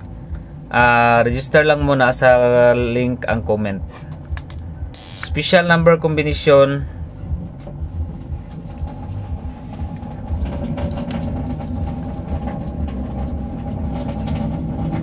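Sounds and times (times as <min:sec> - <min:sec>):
faint steady hum: 0:00.0 - 0:15.0
low mechanical rumble: 0:00.0 - 0:15.0.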